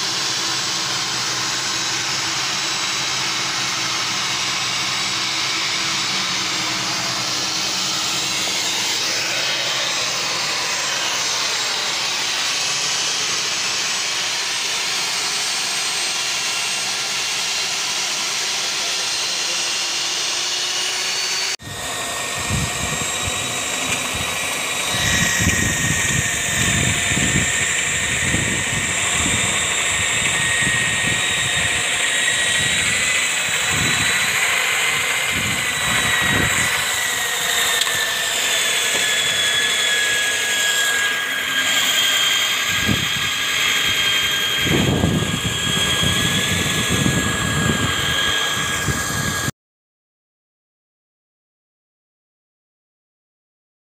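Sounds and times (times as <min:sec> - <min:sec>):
core drill motor whining: 0:00.0 - 0:49.5.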